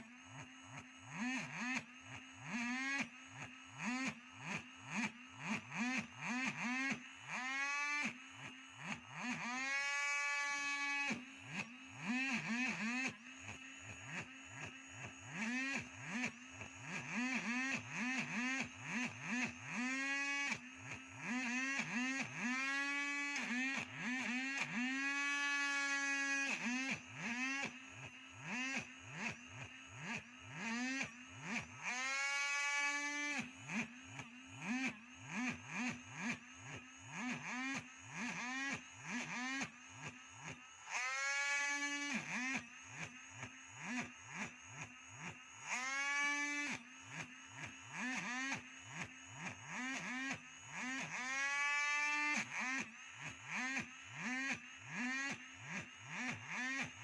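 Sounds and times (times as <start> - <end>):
small power tool motor whining: 0.0 - 57.0.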